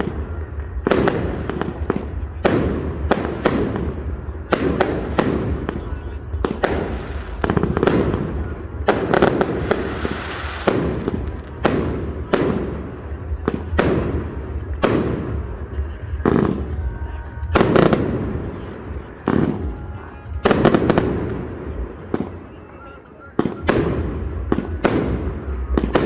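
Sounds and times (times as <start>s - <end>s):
fireworks bangs with rumbling echo: 0.0s - 22.6s, 23.3s - 26.0s.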